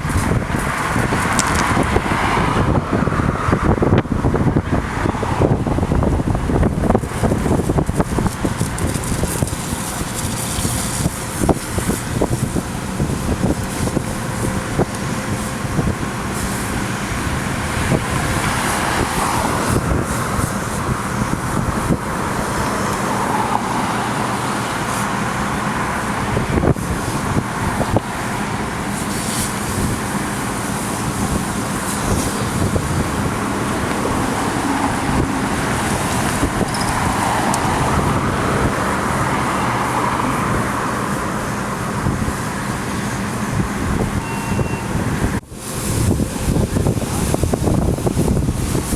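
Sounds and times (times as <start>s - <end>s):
vehicle engine hum and road rumble: 0.0s - 48.9s.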